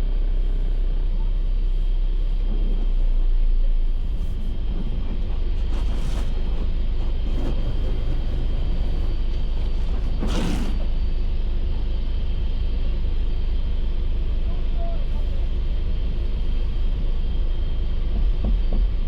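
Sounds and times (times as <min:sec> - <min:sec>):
car wash equipment running: 0:00.0 - 0:19.0.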